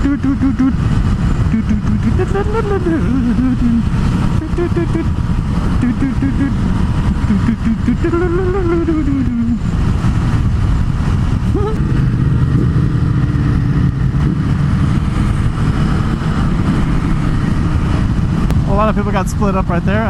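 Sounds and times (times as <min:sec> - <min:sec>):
motorcycle engine under way: 0:00.0 - 0:18.8
wind noise: 0:00.0 - 0:20.0.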